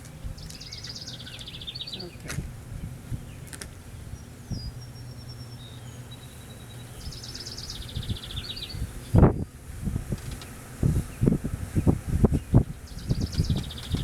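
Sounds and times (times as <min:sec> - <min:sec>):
low steady hum: 0:00.0 - 0:14.0
songbird singing: 0:00.0 - 0:14.0.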